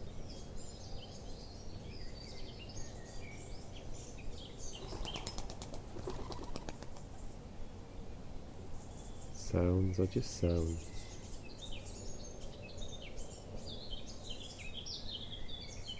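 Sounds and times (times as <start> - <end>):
small birds chirping: 0.0 - 8.1, 8.7 - 15.9.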